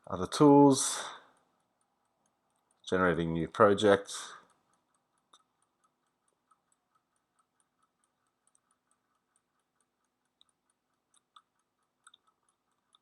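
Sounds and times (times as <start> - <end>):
rapid even ticking: 0.0 - 13.0.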